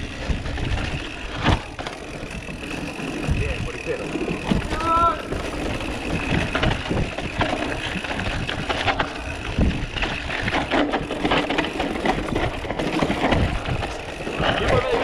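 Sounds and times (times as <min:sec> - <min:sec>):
mountain bike rattling on trail: 0:00.0 - 0:15.0
steady rushing noise: 0:00.0 - 0:15.0.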